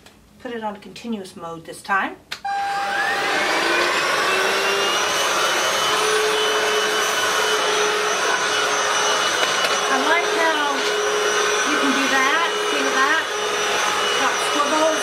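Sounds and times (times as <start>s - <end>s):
vacuum cleaner motor whining: 2.5s - 15.0s.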